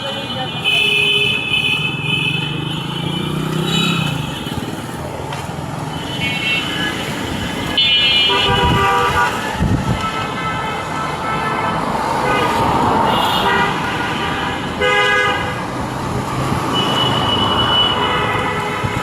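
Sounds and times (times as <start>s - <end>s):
car horns tooting: 0.0s - 4.8s, 5.9s - 15.8s, 16.6s - 19.0s
vehicles passing: 0.0s - 19.0s.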